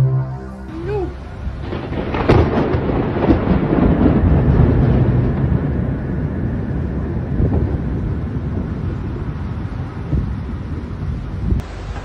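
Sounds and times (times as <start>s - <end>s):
low rumble: 0.0s - 11.7s
wind: 0.0s - 12.0s
rain: 0.7s - 12.0s.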